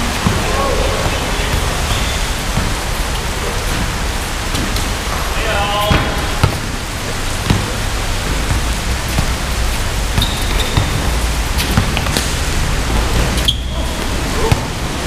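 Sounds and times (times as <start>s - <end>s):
sneakers squeaking: 0.0s - 6.7s, 7.4s - 12.3s, 13.0s - 14.9s
basketball bouncing: 0.0s - 14.9s
steady rushing background noise: 0.0s - 15.0s.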